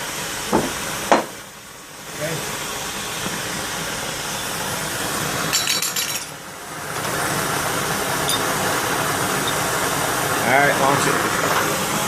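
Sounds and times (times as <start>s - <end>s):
gas torch flame hissing: 0.0s - 5.5s, 6.3s - 12.0s.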